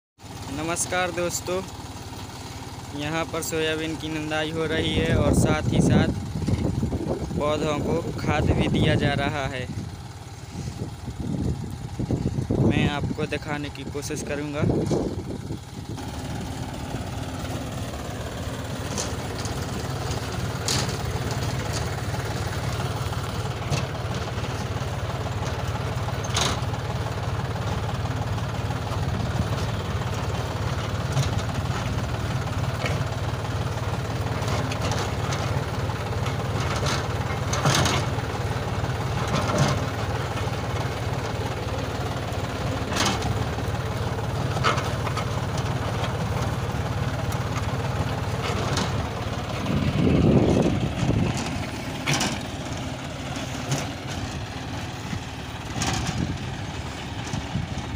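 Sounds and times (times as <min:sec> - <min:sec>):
tractor diesel engine running: 0:00.2 - 0:57.9
sharp clicks and rattles: 0:11.2 - 0:57.9.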